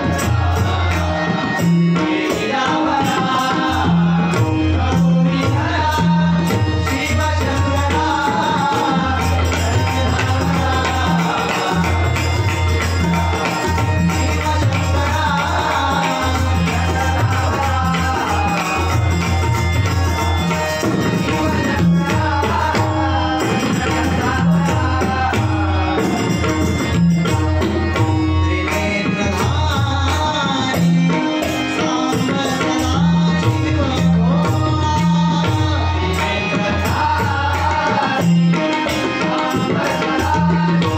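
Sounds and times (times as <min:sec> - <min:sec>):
man singing: 0:00.0 - 0:40.9
tabla rhythm: 0:00.0 - 0:40.9
metallic jingling percussion: 0:04.9 - 0:40.9.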